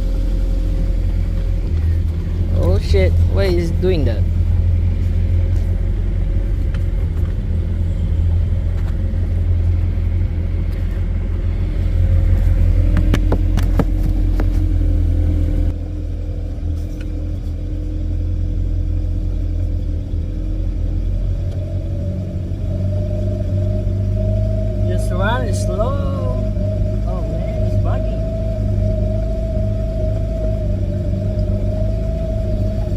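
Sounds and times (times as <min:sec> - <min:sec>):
boat engine rumbling: 0:00.0 - 0:32.9.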